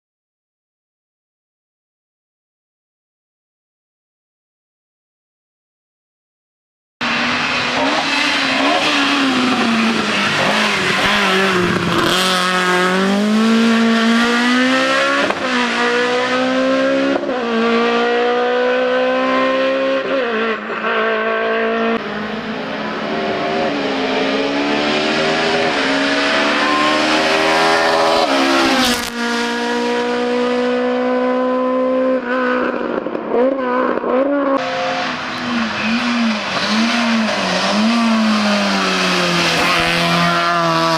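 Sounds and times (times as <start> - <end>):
race car engine accelerating: 7.0 - 40.9.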